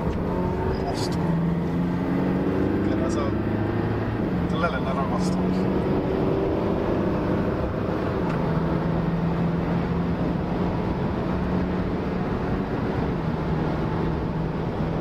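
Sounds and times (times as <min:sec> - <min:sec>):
car engine drone: 0:00.0 - 0:15.0
road and tyre noise: 0:00.0 - 0:15.0.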